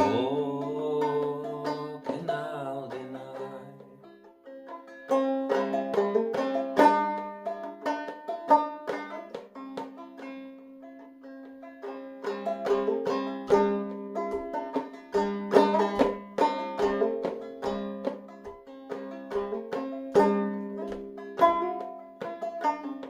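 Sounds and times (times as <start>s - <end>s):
clawhammer banjo playing: 0.0s - 23.0s.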